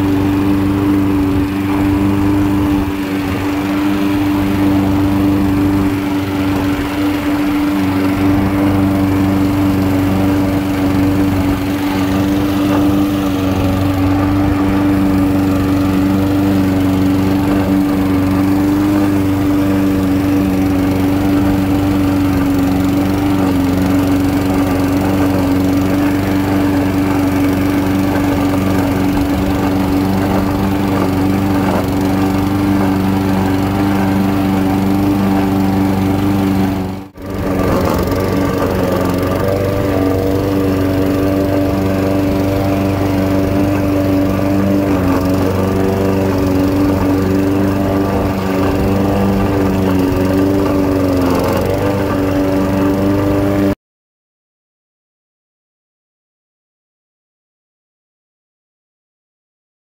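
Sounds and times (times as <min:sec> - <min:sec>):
lawn mower engine running: 0:00.0 - 0:53.8.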